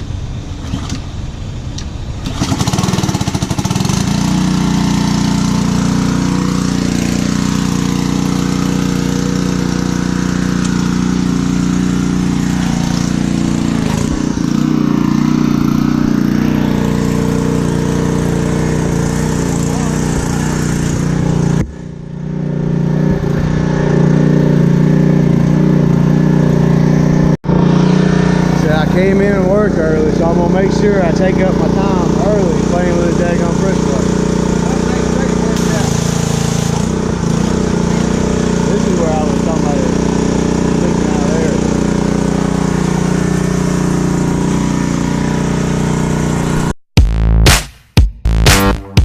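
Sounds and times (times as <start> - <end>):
pressure washer engine running: 0.0 - 46.8.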